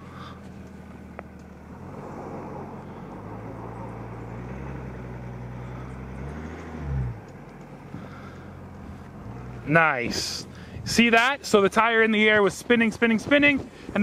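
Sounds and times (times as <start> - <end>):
diesel truck engine revving: 0.0 - 12.4.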